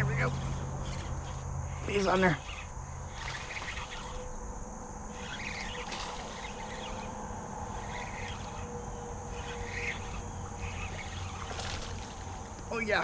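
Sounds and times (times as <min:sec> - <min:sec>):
insect buzzing: 0:00.0 - 0:13.0.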